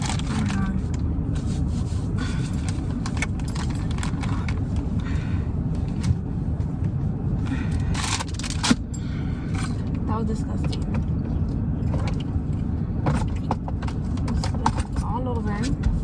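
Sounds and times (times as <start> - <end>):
car cabin hum: 0.0 - 16.0.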